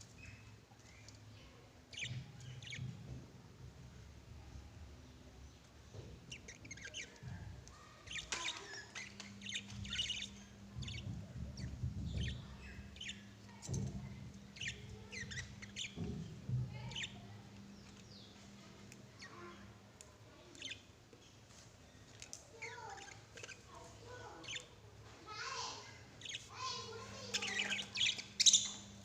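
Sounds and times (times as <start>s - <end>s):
lovebirds chirping: 0.0s - 3.1s, 5.4s - 19.7s, 20.3s - 29.0s.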